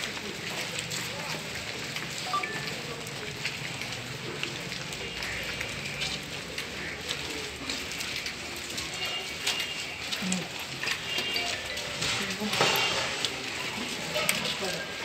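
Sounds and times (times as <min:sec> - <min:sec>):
footsteps of a walking crowd: 0:00.0 - 0:15.0.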